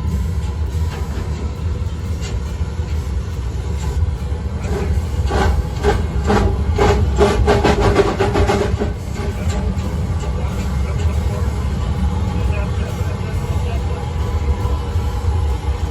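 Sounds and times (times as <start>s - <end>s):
rattling clacks and squeals: 0.0s - 15.9s
train running low rumble: 0.0s - 15.9s.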